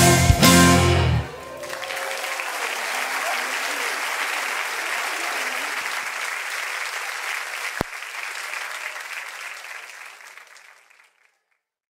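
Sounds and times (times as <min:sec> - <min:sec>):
audience applauding: 0:00.6 - 0:11.7.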